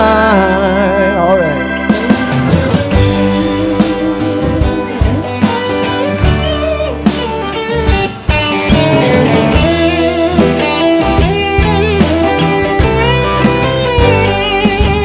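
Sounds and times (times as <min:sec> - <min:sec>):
bass guitar: 0:00.0 - 0:15.0
drums: 0:00.0 - 0:15.0
electric guitar lead: 0:00.0 - 0:15.0.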